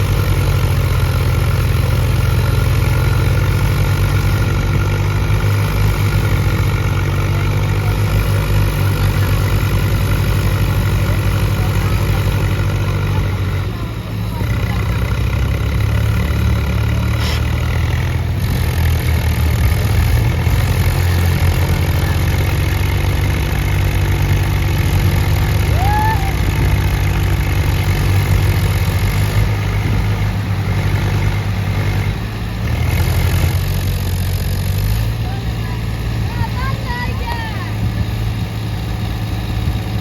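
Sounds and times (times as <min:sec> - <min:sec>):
tractor diesel engine chugging: 0:00.0 - 0:40.0.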